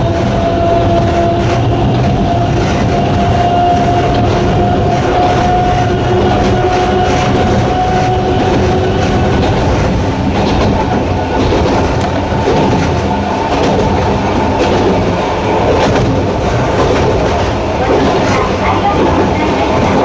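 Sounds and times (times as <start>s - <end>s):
electric train motors humming: 0.0s - 20.0s
wheel and rail noise: 0.0s - 20.0s.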